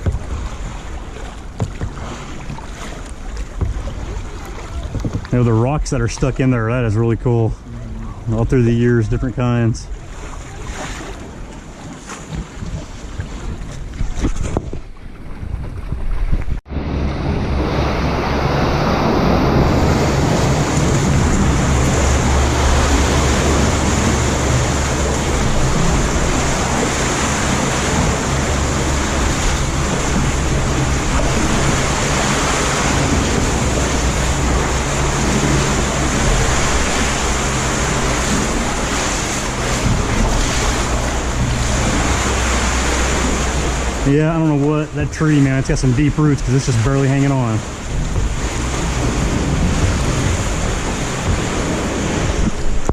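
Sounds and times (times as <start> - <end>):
lake waves washing: 0.0 - 52.9
wind blowing across microphone: 3.6 - 52.9.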